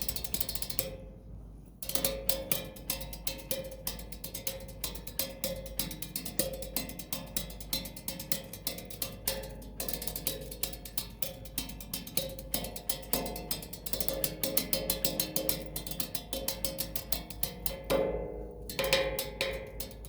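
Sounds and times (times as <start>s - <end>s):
percussion knocks and taps: 2.0s - 20.0s.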